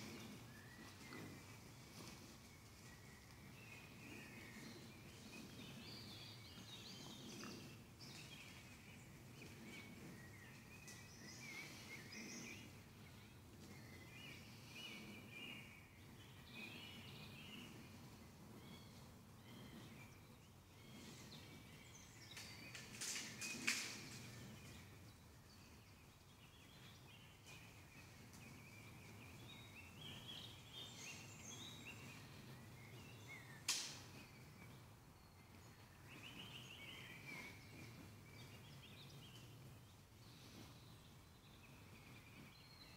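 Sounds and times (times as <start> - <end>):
birds chirping and singing: 0.0 - 42.9.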